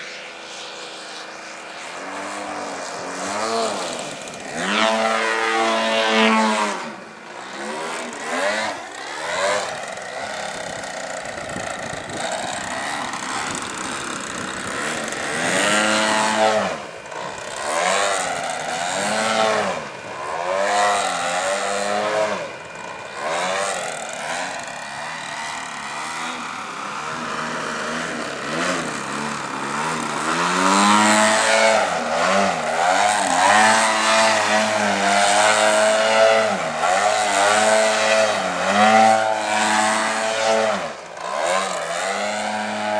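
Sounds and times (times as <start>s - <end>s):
model plane engine and propeller: 0.0s - 42.9s.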